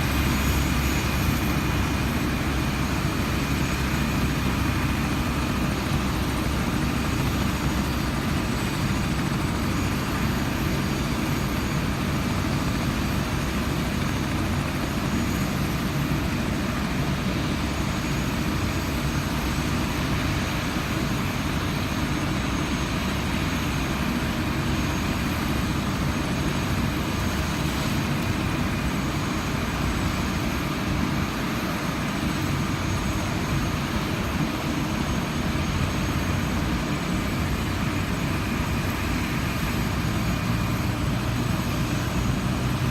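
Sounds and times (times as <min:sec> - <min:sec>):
helicopter rotor and engine noise: 0:00.0 - 0:42.9.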